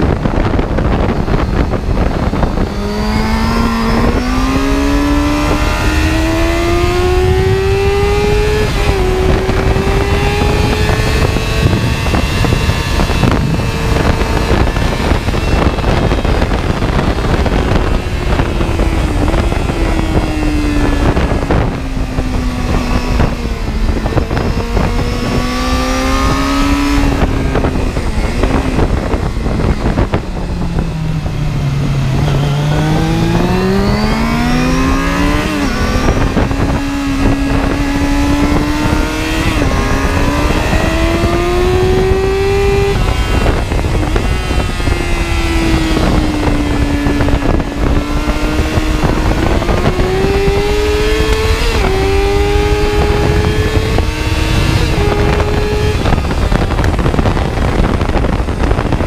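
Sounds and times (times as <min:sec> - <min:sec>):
car engine running hard: 0:00.0 - 0:59.0
wind buffeting: 0:00.0 - 0:59.0.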